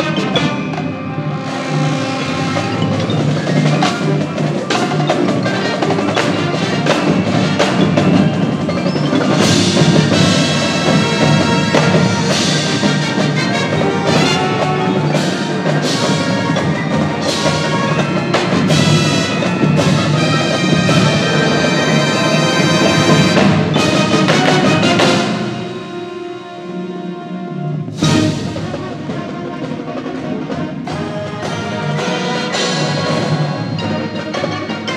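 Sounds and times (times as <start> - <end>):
marimbas playing fast notes: 0.0 - 29.6, 30.2 - 34.9
marching band playing: 0.0 - 34.9.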